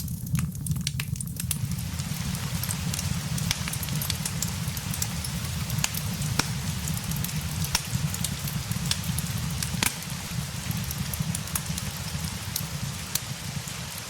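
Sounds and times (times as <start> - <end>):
burning wood crackling and popping: 0.0 - 14.0
rain rushing: 1.2 - 14.0.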